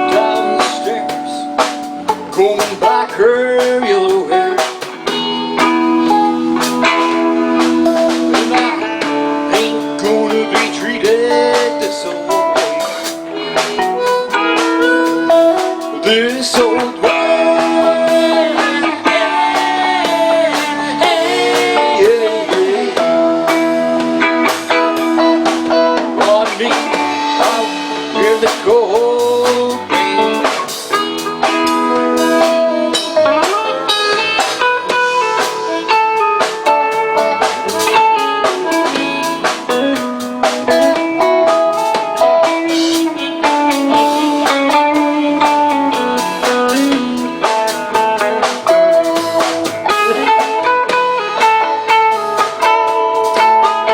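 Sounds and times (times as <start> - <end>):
bass guitar: 0.0 - 53.9
drum kit: 0.0 - 53.9
guitar lead with bent notes: 0.0 - 53.9
sustained guitar chords: 0.0 - 53.9.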